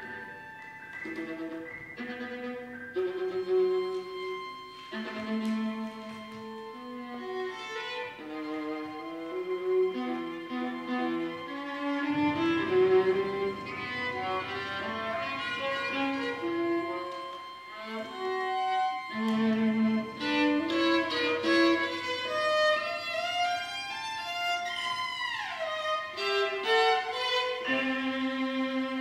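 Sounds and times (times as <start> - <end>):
chamber ensemble music: 0.0 - 29.0
violin: 0.0 - 29.0.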